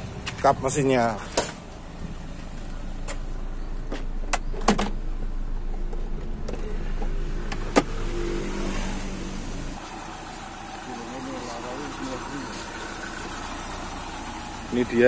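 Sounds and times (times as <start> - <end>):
engine idling low hum: 0.0 - 8.1, 9.2 - 15.0.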